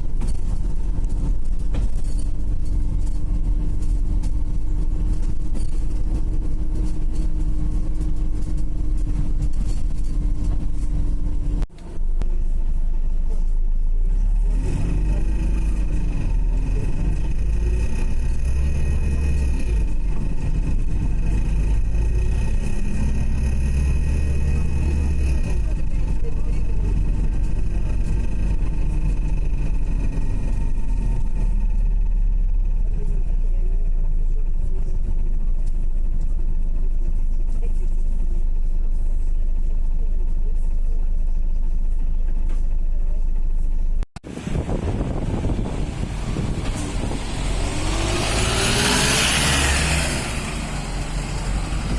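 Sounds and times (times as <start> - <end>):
bus drivetrain rumble: 0.0 - 51.9.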